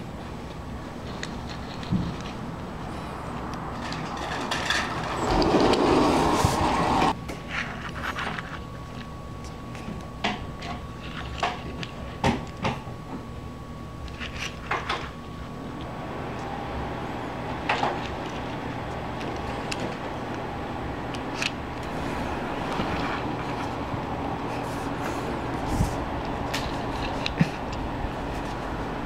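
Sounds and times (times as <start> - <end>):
background hum and hiss: 0.0 - 29.0.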